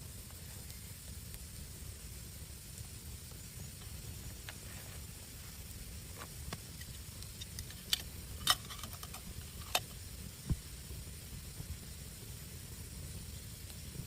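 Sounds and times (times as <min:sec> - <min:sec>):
low steady rumble: 0:00.0 - 0:14.0
sharp pops and crackles: 0:00.0 - 0:14.0.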